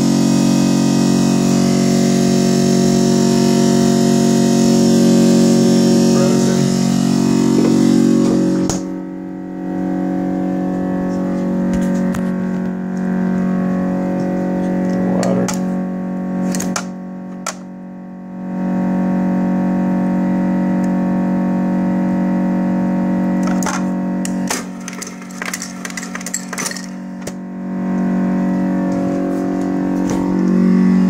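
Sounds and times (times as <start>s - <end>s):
refrigerator droning hum: 0.0s - 31.0s.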